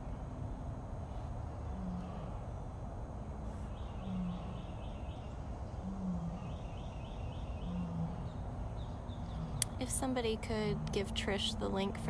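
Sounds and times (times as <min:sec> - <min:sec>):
distant lion roaring: 0:00.0 - 0:12.0.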